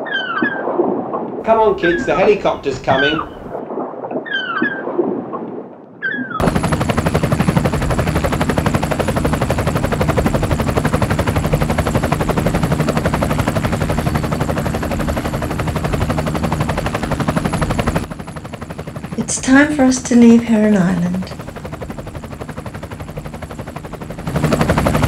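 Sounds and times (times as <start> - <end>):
helicopter rotor chopping: 1.4 - 3.6, 6.4 - 25.0.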